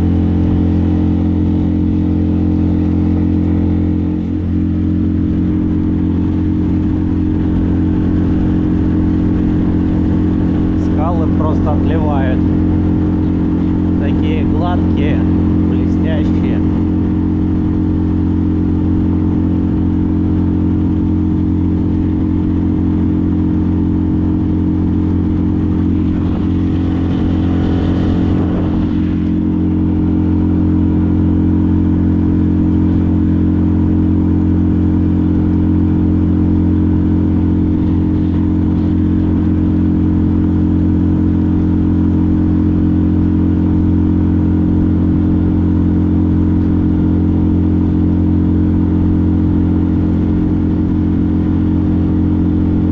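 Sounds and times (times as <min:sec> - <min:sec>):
outboard motor running: 0:00.0 - 0:52.9.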